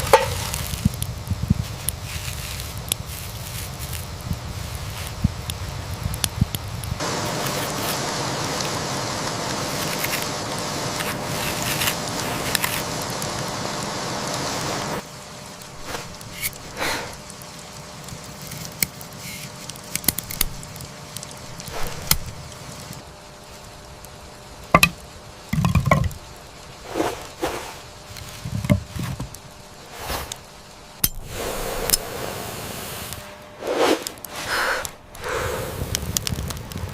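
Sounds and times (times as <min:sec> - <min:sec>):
rain hiss: 0:00.0 - 0:36.9.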